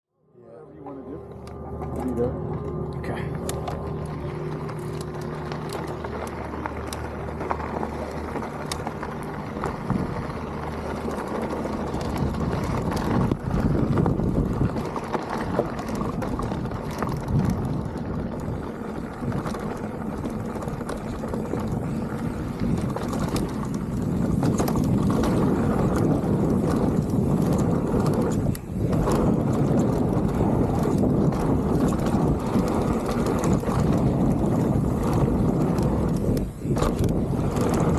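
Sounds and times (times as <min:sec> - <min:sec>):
bike tyre noise: 0:00.8 - 0:37.9
wind rushing over microphone: 0:00.9 - 0:37.9
bike rattling clicks: 0:01.3 - 0:37.9.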